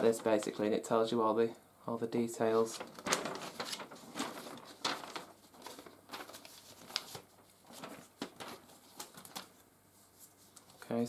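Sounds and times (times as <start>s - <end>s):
paper rustling and crinkling: 0.0s - 0.7s, 2.4s - 11.0s.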